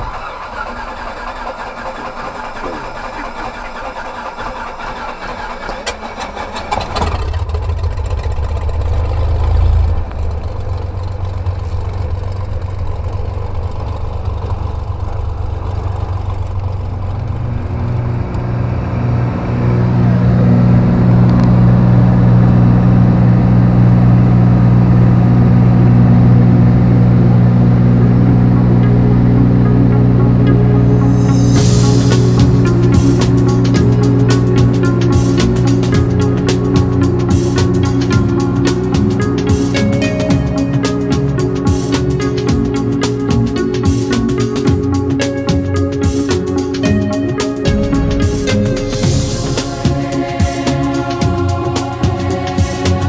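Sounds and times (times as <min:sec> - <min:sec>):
light aircraft engine from cabin: 0:00.0 - 0:53.0.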